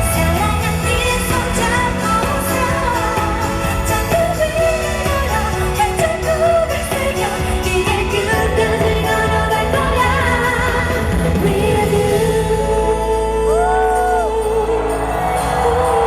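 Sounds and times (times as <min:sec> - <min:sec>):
band playing pop music: 0:00.0 - 0:16.0.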